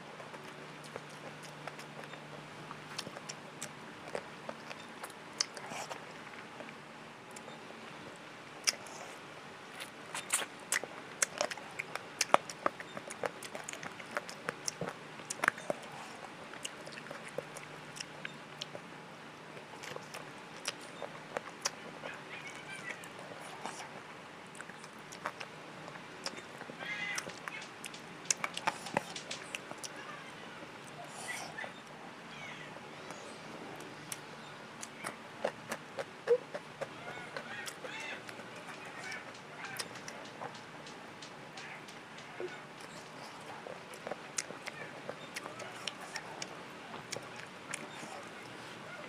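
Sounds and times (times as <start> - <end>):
wet chewing and lip-smacking: 0.1 - 7.6, 8.6 - 9.2, 9.8 - 30.0, 33.8 - 48.9.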